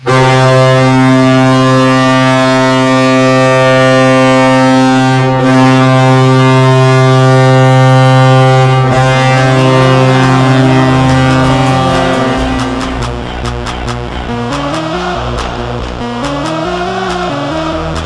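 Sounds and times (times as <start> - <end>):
ice hockey goal horn blast: 0.0 - 15.6.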